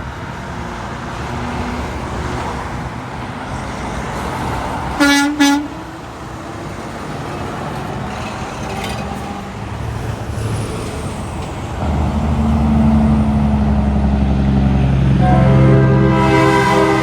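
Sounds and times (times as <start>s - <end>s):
heavy truck engine: 0.0s - 17.0s
road traffic passing: 0.0s - 17.0s.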